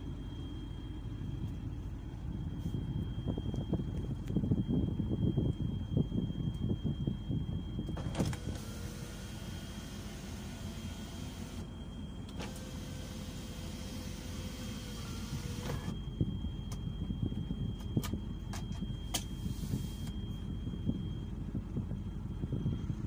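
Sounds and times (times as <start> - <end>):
electric sunroof motor whine: 0.0 - 23.0.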